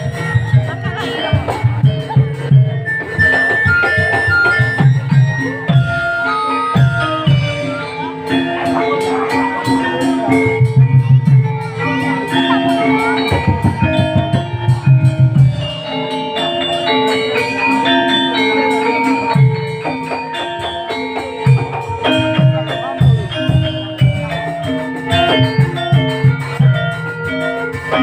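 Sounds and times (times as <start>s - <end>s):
fast high ticking percussion: 0.0s - 28.0s
metallophones ringing melody: 0.0s - 28.0s.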